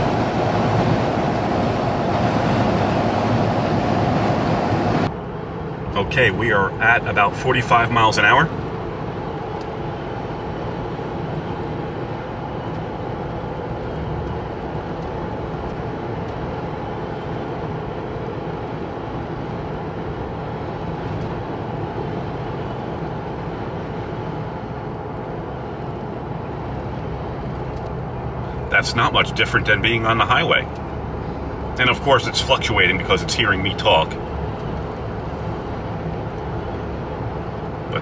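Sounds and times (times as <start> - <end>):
car cabin road hum: 0.0 - 38.0.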